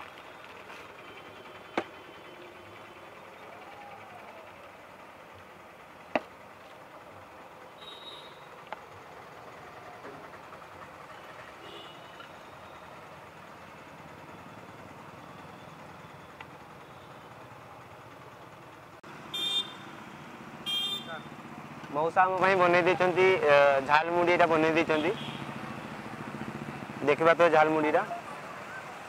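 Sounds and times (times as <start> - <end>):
traffic hum: 0.0 - 29.0.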